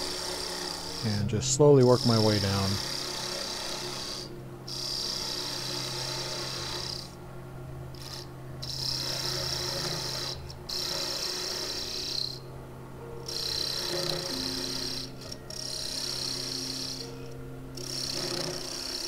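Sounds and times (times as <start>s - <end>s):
parting tool cutting wood: 0.0s - 7.1s, 8.0s - 12.4s, 13.2s - 17.1s, 17.8s - 19.0s
lathe motor hum: 0.0s - 19.0s.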